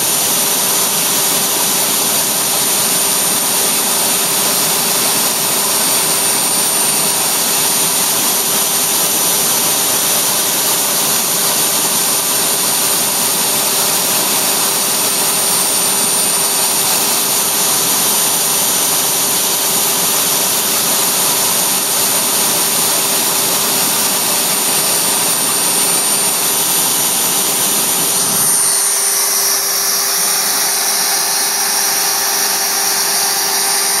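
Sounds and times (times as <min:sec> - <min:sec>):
router spindle whining: 0:00.0 - 0:34.0.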